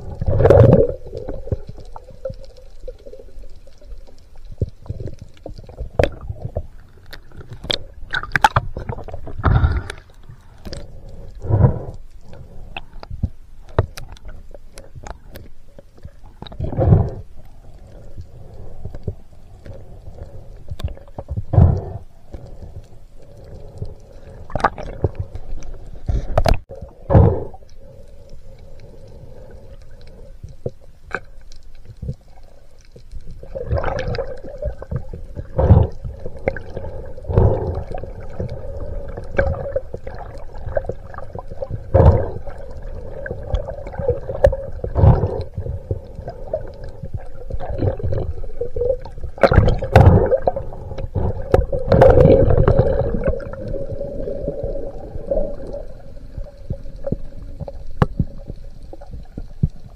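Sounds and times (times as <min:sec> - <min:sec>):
steady underwater hum: 0:00.0 - 0:59.9.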